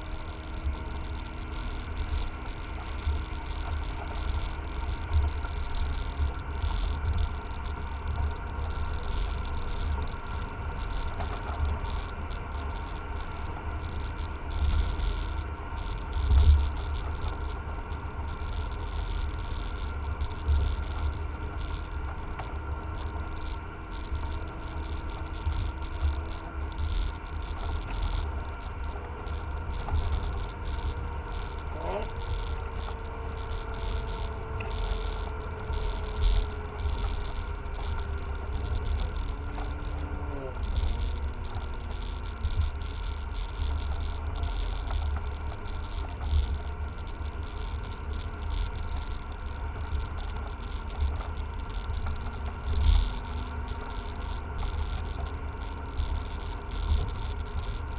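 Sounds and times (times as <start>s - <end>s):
car interior road and engine rumble: 0.0s - 57.9s.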